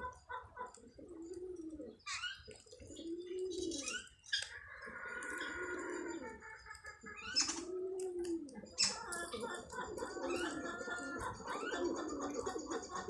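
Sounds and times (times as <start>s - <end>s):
low cooing calls: 0.0s - 13.0s
sparrows chirping: 0.0s - 13.0s.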